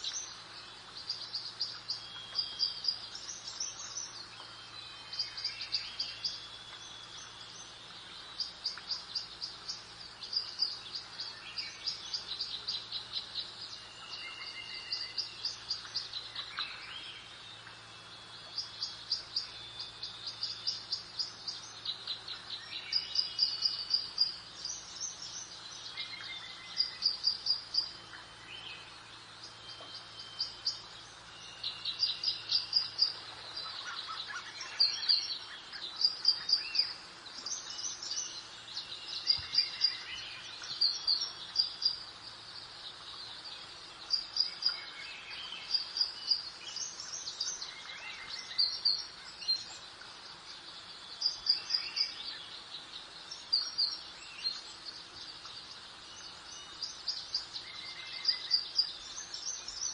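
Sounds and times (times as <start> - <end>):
soft background hiss: 0.0 - 59.9
songbirds chirping: 0.0 - 59.9.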